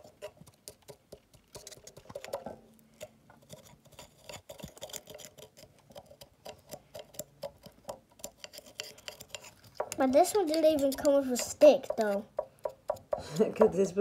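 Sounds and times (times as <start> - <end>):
plastic fork scraping clay pot: 0.0 - 13.8.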